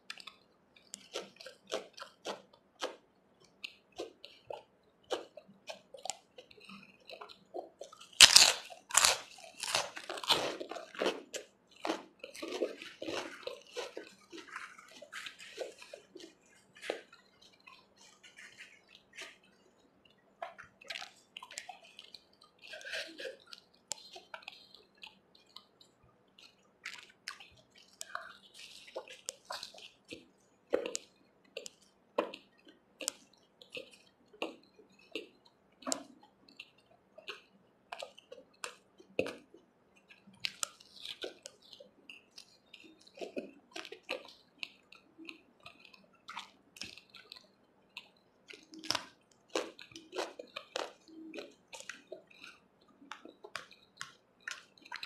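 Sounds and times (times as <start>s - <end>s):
chewing and wet mouth sounds: 0.0s - 55.0s.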